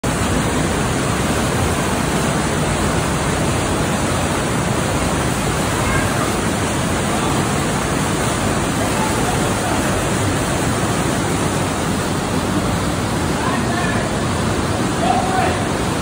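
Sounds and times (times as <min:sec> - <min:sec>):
floodwater rushing through cave: 0:00.0 - 0:16.0.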